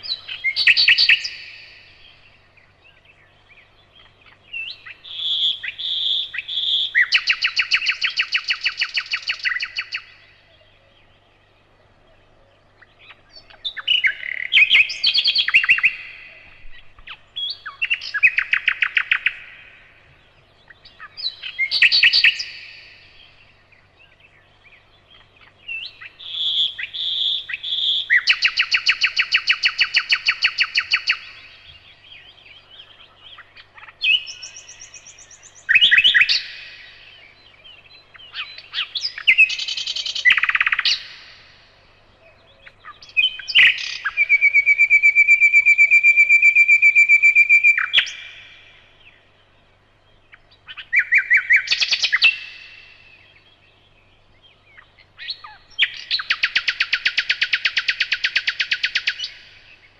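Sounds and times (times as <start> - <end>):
nightingale singing: 0.0 - 59.9.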